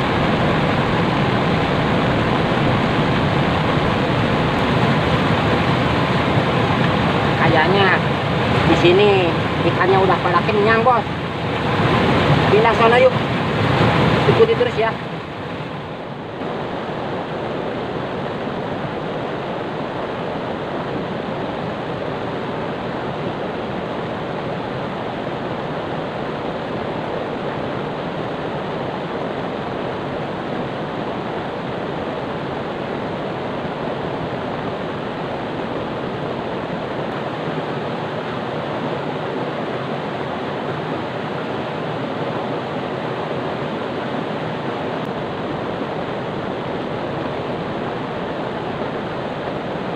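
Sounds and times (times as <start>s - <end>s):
rushing river water: 0.0s - 49.9s.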